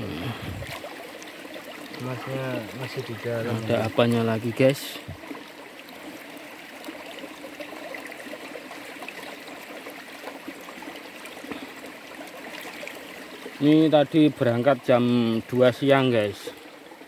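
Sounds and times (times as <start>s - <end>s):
river water running and splashing: 0.0s - 17.0s.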